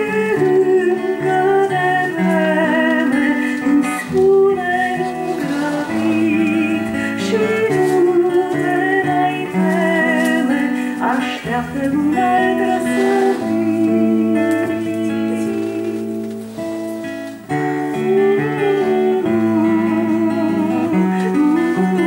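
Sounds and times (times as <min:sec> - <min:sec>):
acoustic guitar: 0:00.0 - 0:22.0
woman singing: 0:00.0 - 0:22.0.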